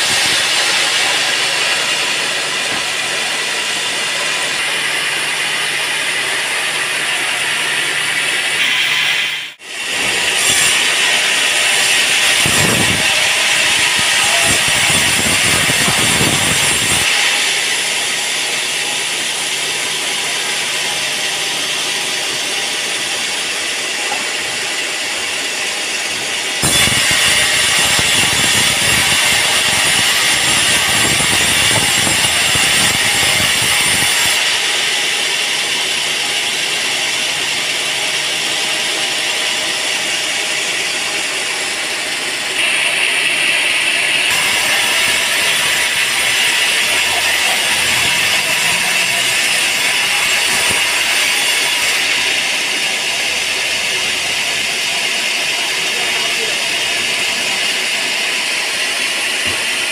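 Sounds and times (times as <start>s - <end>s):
band saw sawing log: 0.0s - 59.9s.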